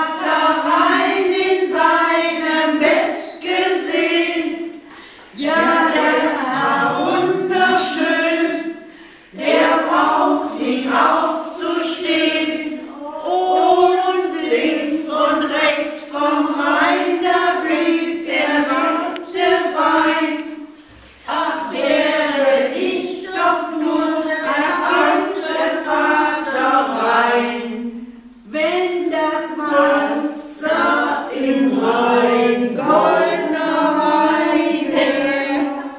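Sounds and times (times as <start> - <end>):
group singing without accompaniment: 0.0 - 35.9.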